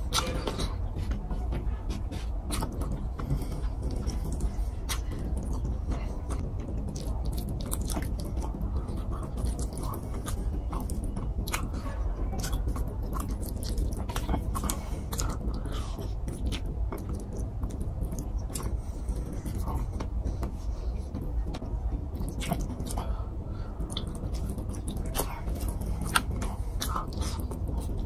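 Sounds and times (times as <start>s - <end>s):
person chewing food: 0.0s - 28.0s
steady low rumble: 0.0s - 28.0s
wet mouth clicks and smacks: 2.5s - 23.1s, 23.8s - 28.0s.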